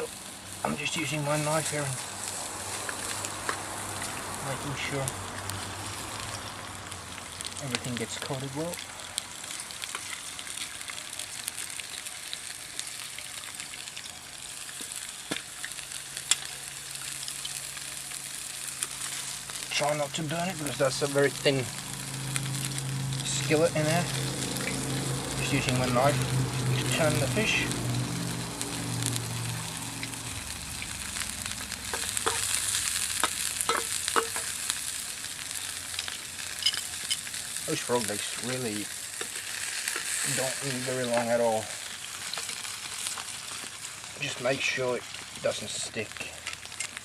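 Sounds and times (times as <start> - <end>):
food sizzling in hot oil: 0.0 - 47.0.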